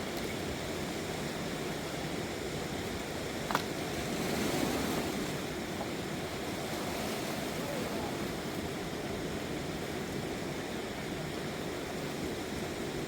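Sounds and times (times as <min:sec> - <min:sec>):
river water roaring: 0:00.0 - 0:13.0.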